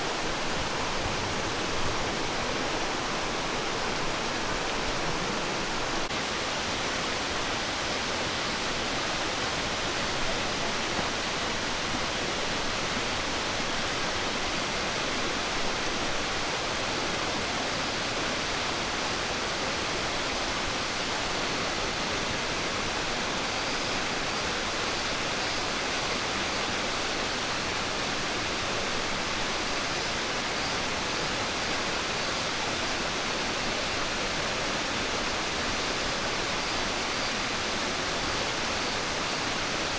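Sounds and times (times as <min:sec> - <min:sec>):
rushing falling water: 0:00.0 - 0:39.9.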